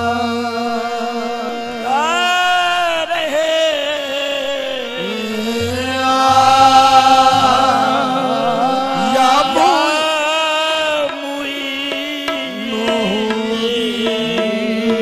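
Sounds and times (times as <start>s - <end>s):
harmonium: 0.0s - 15.0s
men singing long notes: 0.0s - 15.0s.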